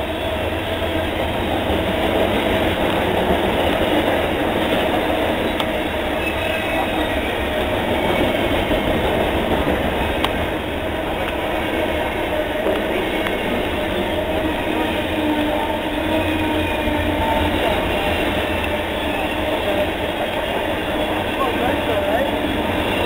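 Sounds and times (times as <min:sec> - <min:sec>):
freight cars rolling on rails: 0:00.0 - 0:23.0.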